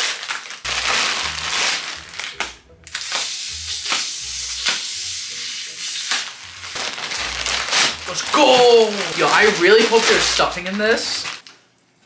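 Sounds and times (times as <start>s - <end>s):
plastic packaging crinkling: 0.0s - 5.0s, 5.8s - 11.6s.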